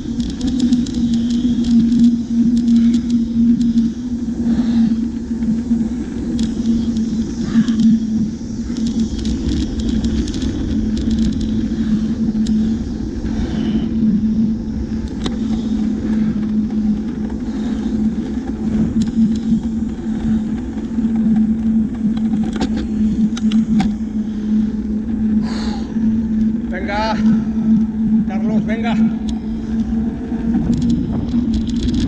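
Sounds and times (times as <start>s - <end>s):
low wind rumble: 0.0s - 32.0s
vehicle road noise hum: 0.0s - 32.0s.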